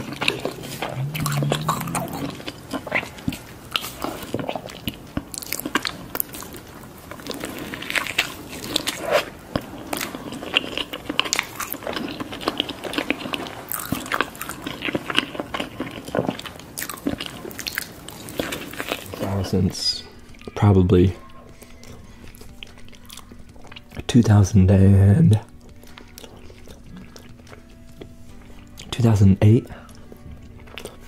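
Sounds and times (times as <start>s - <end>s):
crunching and wet chewing: 0.0s - 31.0s.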